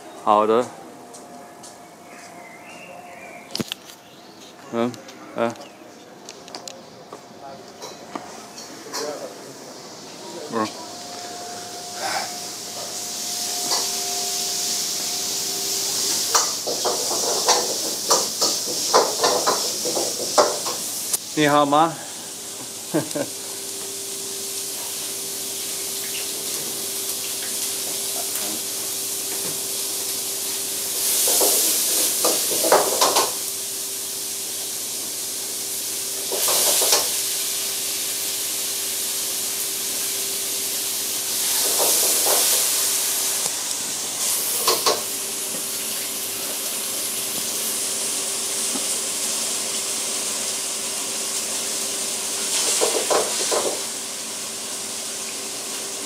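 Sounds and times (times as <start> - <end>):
food sizzling in wok: 7.8 - 56.0
gas burner hiss: 7.8 - 56.0.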